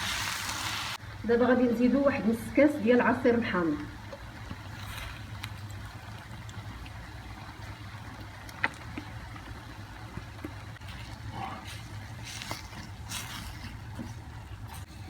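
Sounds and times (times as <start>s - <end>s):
mussels cooking in a pan: 0.0s - 15.0s.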